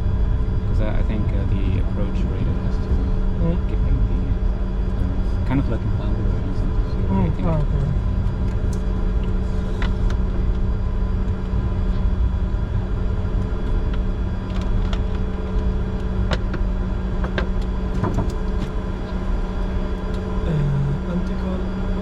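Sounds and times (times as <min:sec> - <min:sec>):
jet engines idling: 0:00.0 - 0:22.0.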